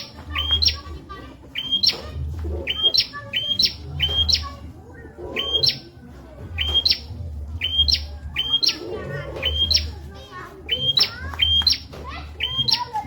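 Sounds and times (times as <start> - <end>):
bird chirping phrase: 0.0 - 1.0, 1.6 - 4.6, 5.2 - 6.0, 6.6 - 10.0, 10.7 - 13.0.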